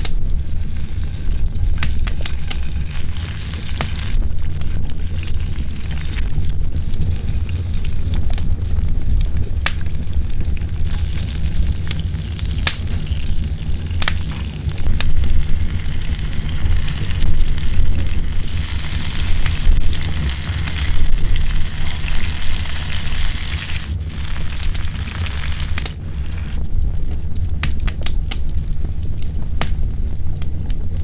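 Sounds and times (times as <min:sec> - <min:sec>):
campfire crackling and sizzling: 0:00.0 - 0:31.0.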